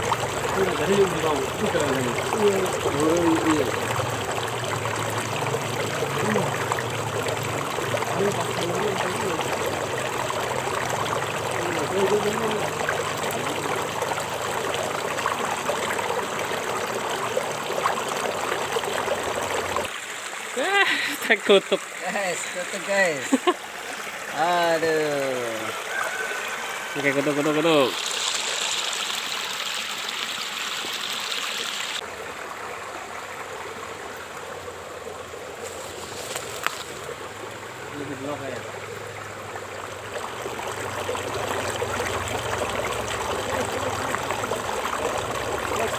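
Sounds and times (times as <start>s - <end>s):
stream rushing over stones: 0.0s - 45.9s.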